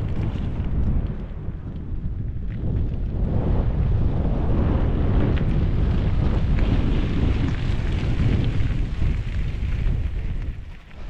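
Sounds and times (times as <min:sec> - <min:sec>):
bicycle tyres crunching on gravel: 0:00.0 - 0:11.0
wind buffeting microphone: 0:00.0 - 0:11.0.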